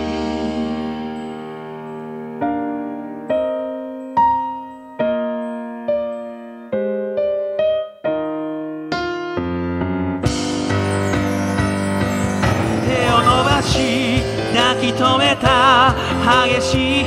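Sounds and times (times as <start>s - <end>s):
piano chords on keyboard: 0.0s - 17.0s.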